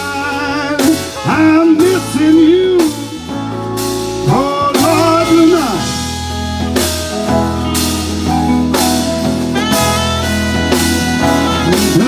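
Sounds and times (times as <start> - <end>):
bass: 0.0 - 12.0
drum kit: 0.0 - 12.0
guitar lead: 0.0 - 12.0.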